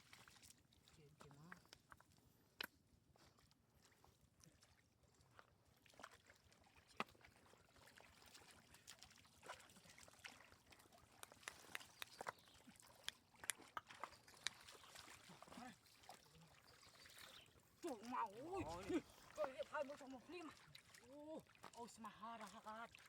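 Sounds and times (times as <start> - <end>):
small splashes: 0.0 - 23.0
water sloshing and trickling: 0.0 - 23.0.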